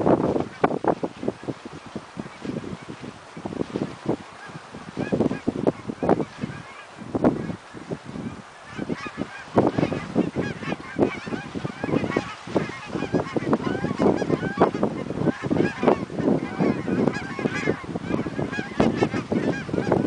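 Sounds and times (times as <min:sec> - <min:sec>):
geese honking: 0:00.2 - 0:20.0.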